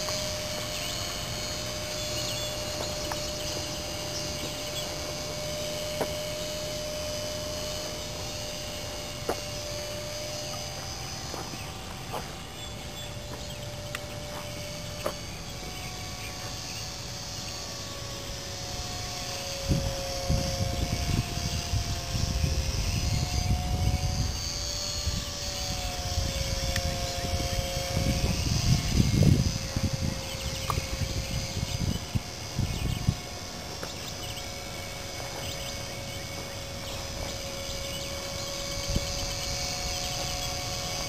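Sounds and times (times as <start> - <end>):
low buffeting rumble: 0.0 - 41.0
model plane motor whine: 0.0 - 41.0.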